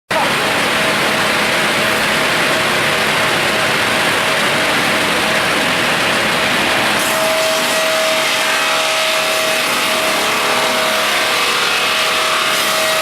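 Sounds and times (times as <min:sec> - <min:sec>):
saw machine running: 0:00.1 - 0:13.0.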